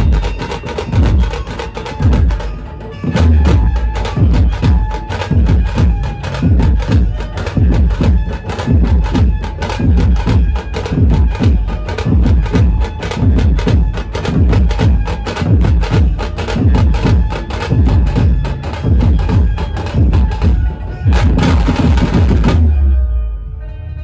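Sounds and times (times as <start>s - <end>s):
band playing loud music: 0.0s - 22.8s
sharp percussion strokes: 0.0s - 22.8s
heavy bass drum: 0.0s - 23.0s.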